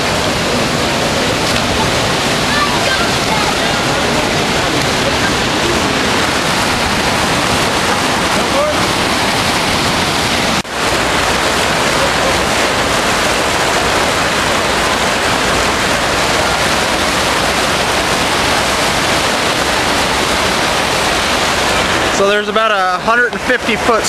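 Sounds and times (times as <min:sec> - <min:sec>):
whitewater rushing down rock slide: 0:00.0 - 0:24.0.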